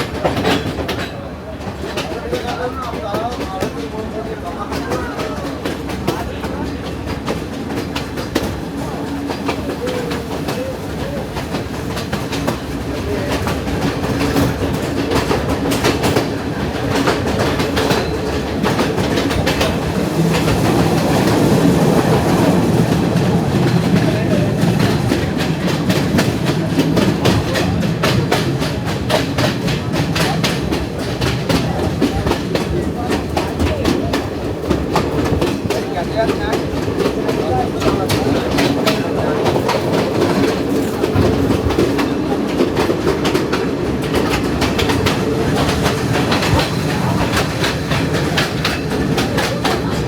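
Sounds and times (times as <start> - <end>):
train wheels clattering on rails: 0.0 - 50.0.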